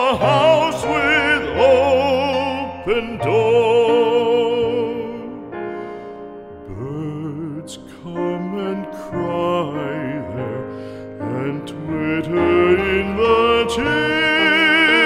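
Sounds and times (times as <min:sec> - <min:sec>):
operatic singing voice: 0:00.0 - 0:05.8, 0:06.6 - 0:15.0
classical accompaniment: 0:00.0 - 0:15.0.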